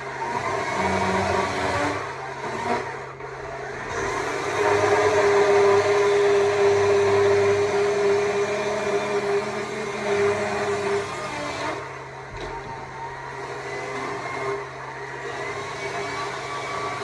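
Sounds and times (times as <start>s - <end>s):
battery chainsaw cutting wood: 0.0s - 17.0s.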